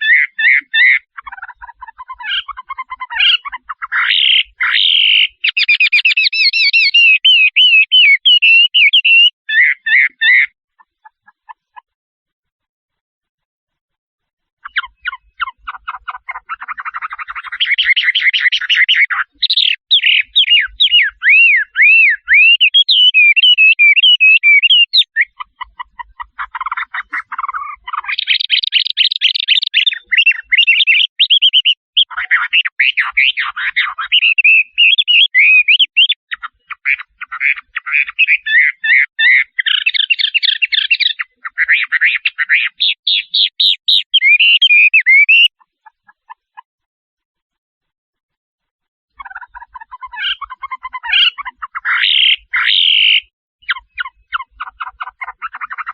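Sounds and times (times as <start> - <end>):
bird song with buzzy trills: 0.0 - 11.8, 14.6 - 46.7, 49.1 - 55.9.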